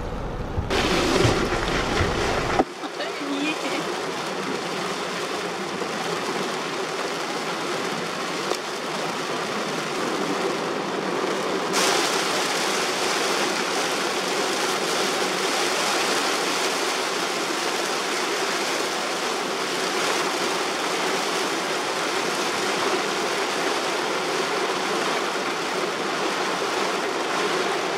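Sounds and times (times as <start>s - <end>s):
heavy rain on a car: 0.6s - 27.9s
tyres hissing through water: 0.7s - 8.0s, 11.7s - 27.9s.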